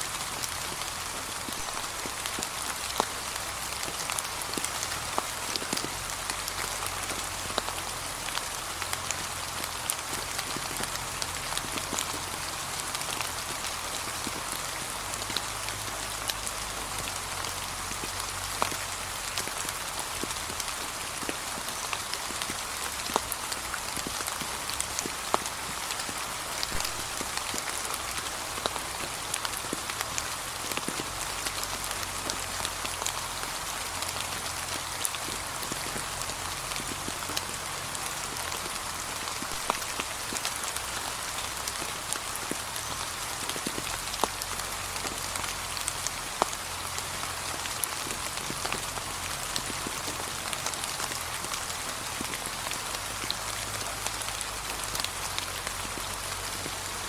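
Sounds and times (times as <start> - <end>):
gentle rain pattering: 0.0 - 57.0.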